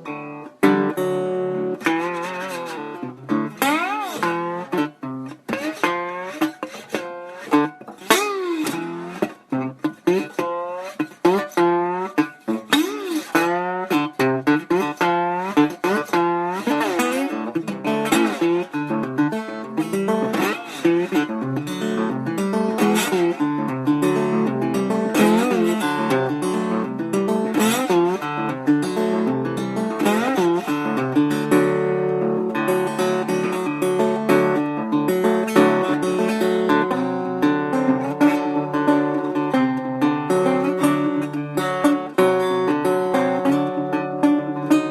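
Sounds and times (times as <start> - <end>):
slide guitar playing: 0.0 - 44.9.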